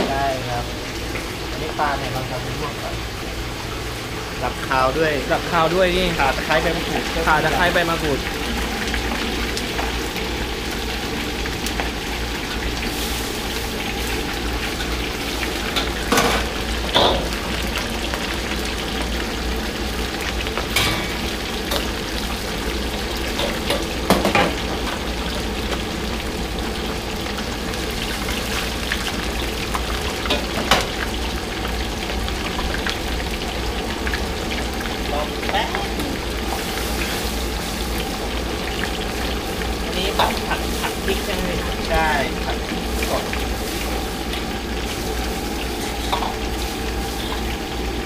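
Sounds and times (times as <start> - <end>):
fish deep-frying in oil: 0.0 - 48.0.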